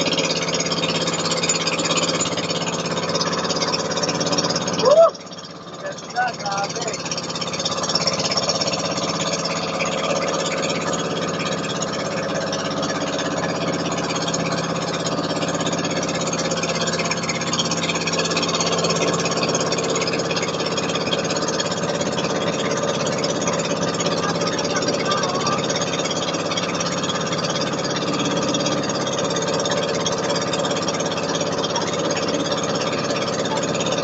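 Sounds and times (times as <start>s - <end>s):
boat engine droning: 0.0s - 34.0s.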